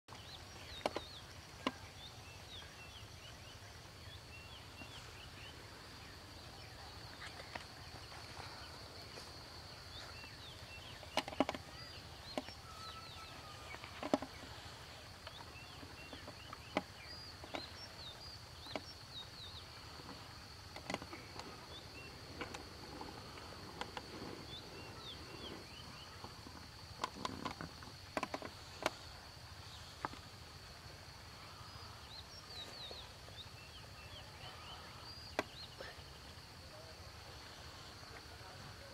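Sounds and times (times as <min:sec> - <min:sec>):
rustles: 0:00.1 - 0:38.9.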